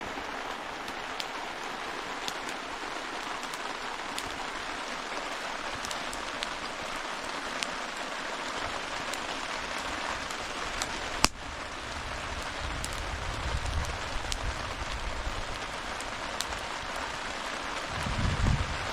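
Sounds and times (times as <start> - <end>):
campfire crackling: 0.0 - 18.9
steady rain: 0.0 - 18.9.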